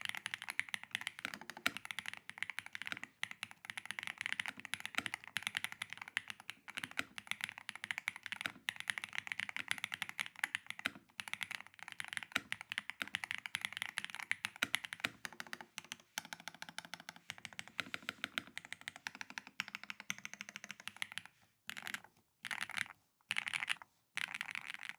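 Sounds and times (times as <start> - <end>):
typing on mechanical keyboard: 0.0 - 24.9.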